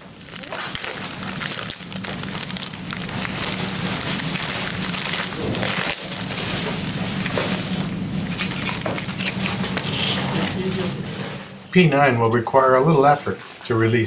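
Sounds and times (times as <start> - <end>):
plastic film crinkling: 0.0 - 11.7.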